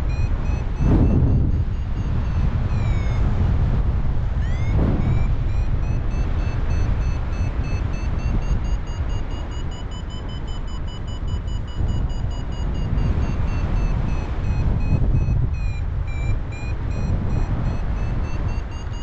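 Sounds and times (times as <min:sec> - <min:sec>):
variometer beeping: 0:00.0 - 0:19.0
wind rush on microphone: 0:00.0 - 0:19.0.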